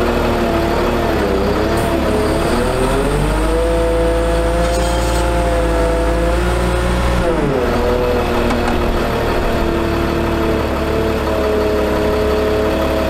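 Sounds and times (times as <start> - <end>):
diesel engine low hum: 0.0 - 13.0
hydraulic whine: 1.3 - 12.1.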